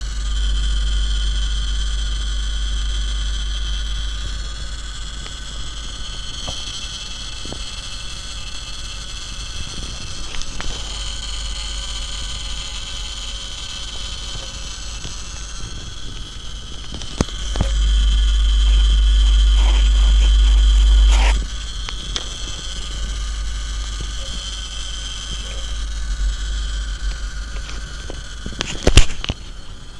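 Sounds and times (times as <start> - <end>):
inverter buzzing with low hum: 0.0 - 29.9
steady high whine: 0.0 - 29.9
electrical crackles: 3.5 - 29.9.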